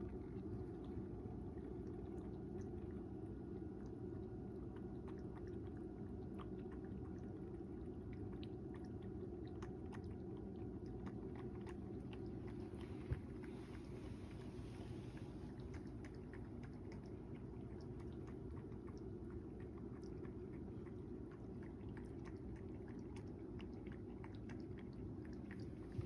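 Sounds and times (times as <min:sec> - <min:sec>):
cat lapping water: 0:00.0 - 0:26.0
low hum: 0:00.0 - 0:26.0.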